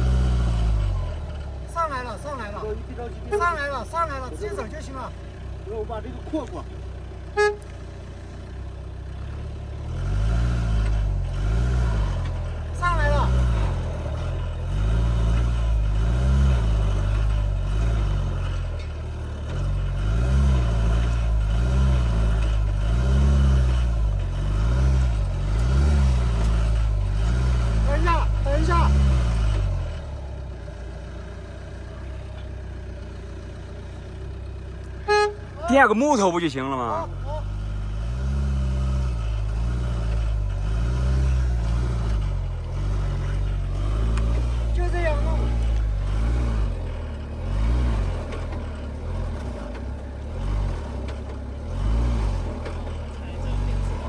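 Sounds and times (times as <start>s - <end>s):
pickup engine revving: 0.0s - 54.0s.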